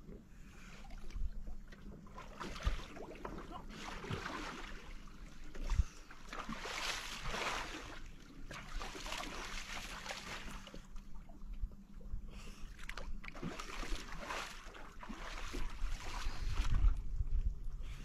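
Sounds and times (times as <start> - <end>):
small waves lapping: 0.6 - 11.5, 12.3 - 17.0.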